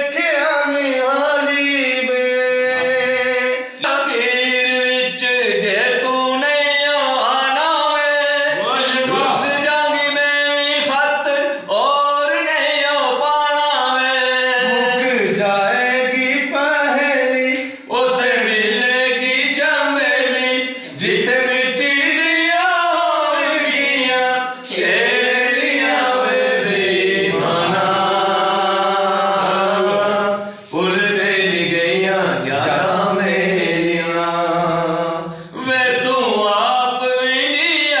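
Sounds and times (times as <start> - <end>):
men singing unaccompanied: 0.0 - 38.0.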